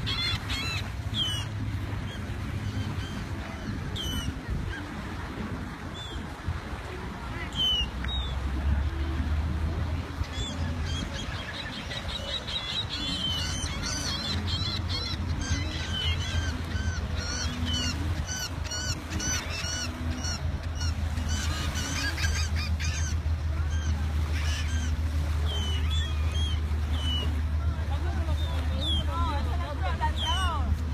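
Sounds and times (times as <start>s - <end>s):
birds calling: 0.0s - 6.4s, 10.1s - 30.8s.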